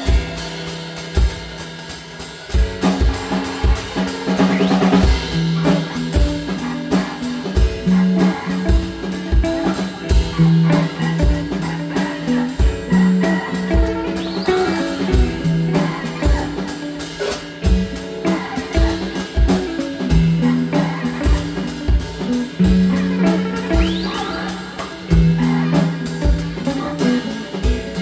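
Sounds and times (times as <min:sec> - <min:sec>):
electric guitar: 0:00.0 - 0:28.0.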